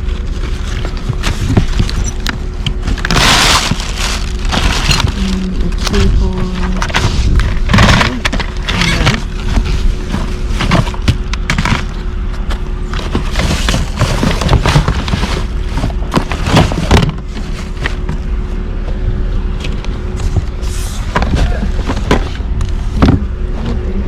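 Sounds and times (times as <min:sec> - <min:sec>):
knocks and thuds of items: 0:00.5 - 0:18.2, 0:20.2 - 0:23.8.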